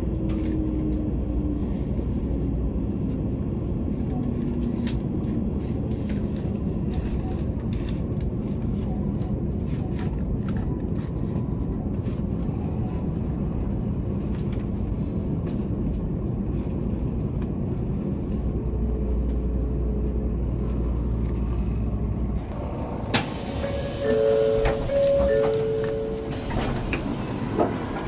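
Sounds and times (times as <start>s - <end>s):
train running low rumble: 0.0s - 28.0s.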